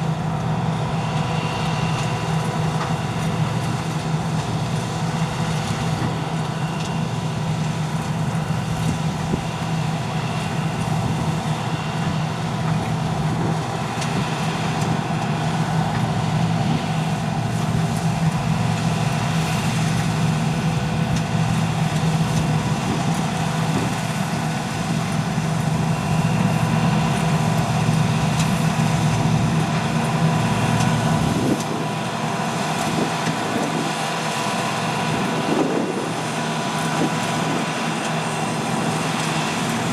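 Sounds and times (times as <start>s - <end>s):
diesel engine hum: 0.0s - 39.9s.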